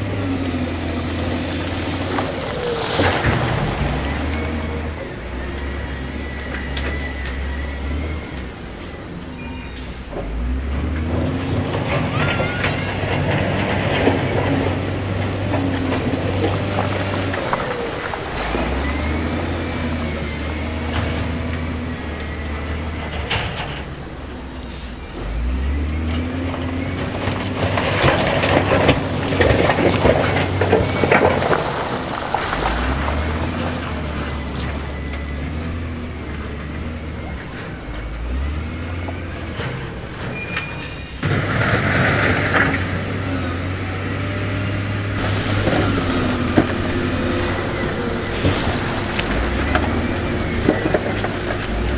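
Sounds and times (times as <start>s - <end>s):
diesel machinery engine revving: 0.0s - 51.9s.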